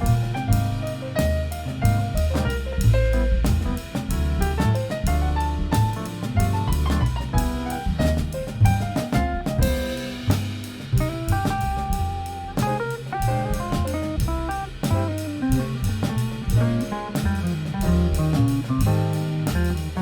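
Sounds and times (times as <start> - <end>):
bass line: 0.0 - 20.0
drum kit with cymbals: 0.0 - 20.0
lead instrument melody: 3.1 - 20.0.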